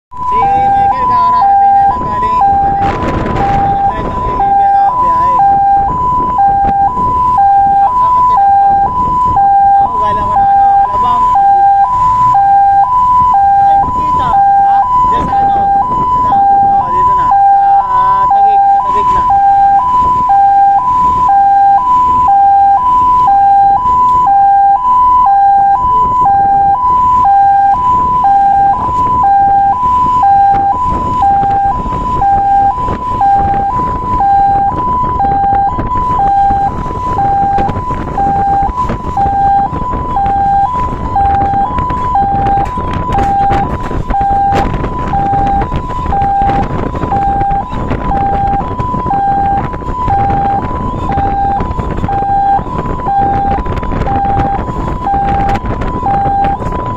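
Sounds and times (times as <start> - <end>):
truck engine and road noise: 0.1 - 56.9
two-tone siren: 0.1 - 56.9.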